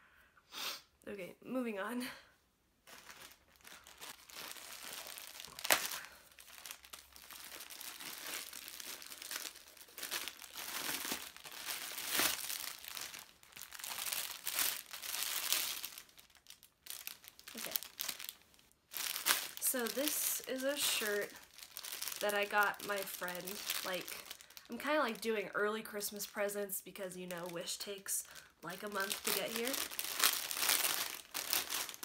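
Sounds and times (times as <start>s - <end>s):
packaging crinkling and rustling: 2.8s - 32.0s.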